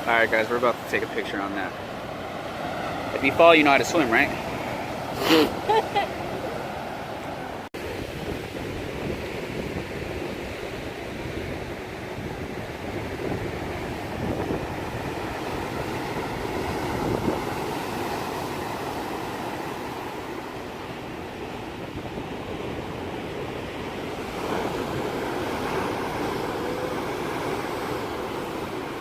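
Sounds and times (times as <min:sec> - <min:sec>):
ocean waves rushing: 0:00.0 - 0:29.0
wind buffeting microphone: 0:04.3 - 0:29.0.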